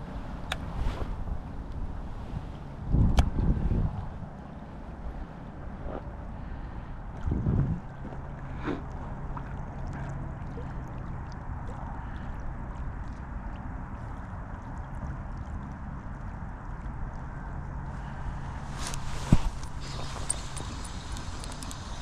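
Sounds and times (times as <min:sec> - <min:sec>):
low steady hum: 0:00.0 - 0:22.0
water noise: 0:00.0 - 0:22.0
wind: 0:00.0 - 0:22.0.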